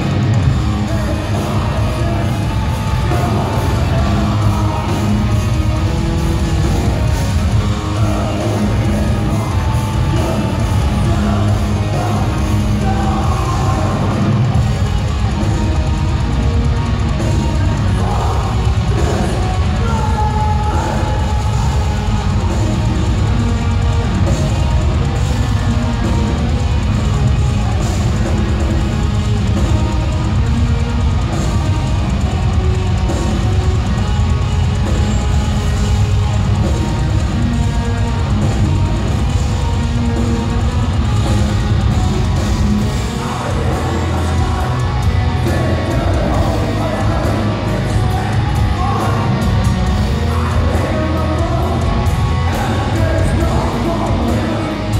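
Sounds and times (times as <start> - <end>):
distorted guitars: 0.0 - 54.9
drums: 0.0 - 54.9.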